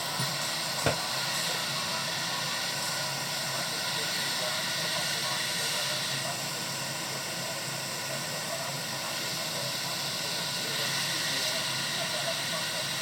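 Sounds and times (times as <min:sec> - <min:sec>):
hot air station hissing: 0:00.0 - 0:13.0.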